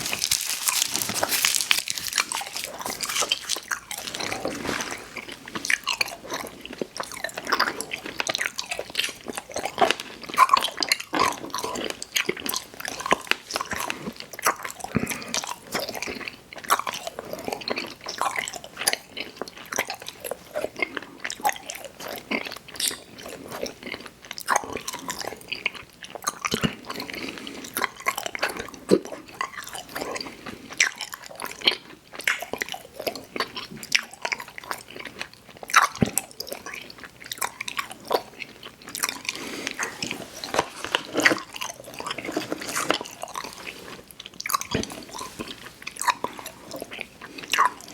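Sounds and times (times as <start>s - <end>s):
wet squishy chewing: 0.0s - 47.9s.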